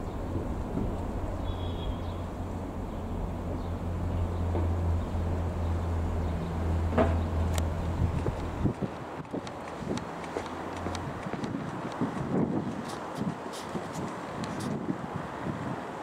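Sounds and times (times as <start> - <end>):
jet engines rumbling overhead: 0.0 - 16.0.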